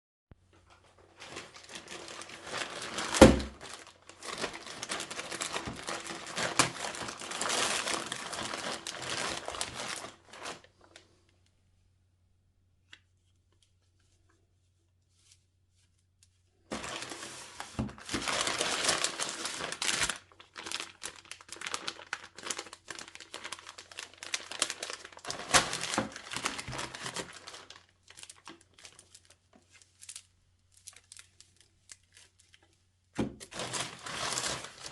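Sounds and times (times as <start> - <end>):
packaging crinkling and tearing: 0.9 - 11.0, 16.7 - 34.9.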